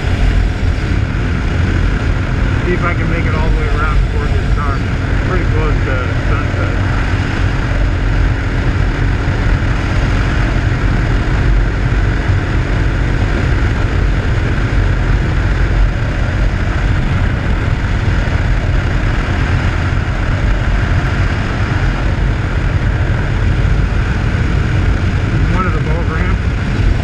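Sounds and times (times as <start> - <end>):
motorcycle engine cruising: 0.0 - 27.0
wind rush on microphone: 0.0 - 27.0.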